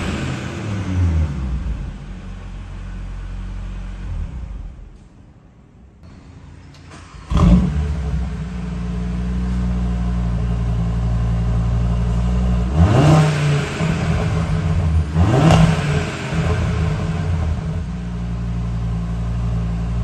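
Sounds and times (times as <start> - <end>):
car engine idling and revving: 0.0 - 5.3, 6.0 - 20.0.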